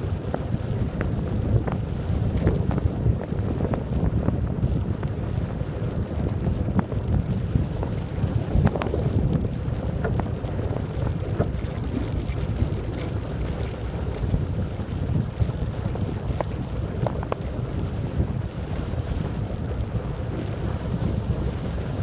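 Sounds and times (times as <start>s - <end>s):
small sharp ticks and knocks: 0.0s - 18.0s
tyre road rumble: 0.0s - 22.0s
wind buffeting microphone: 0.0s - 22.0s.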